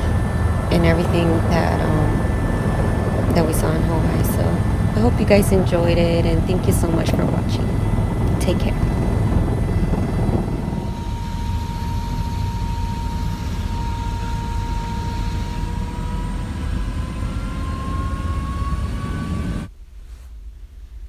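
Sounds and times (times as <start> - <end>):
helicopter turbine and rotor noise: 0.0 - 19.7.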